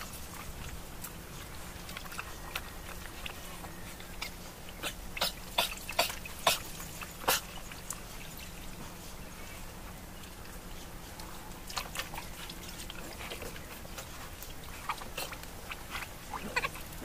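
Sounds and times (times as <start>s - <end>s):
calves slurping water: 0.0s - 17.0s.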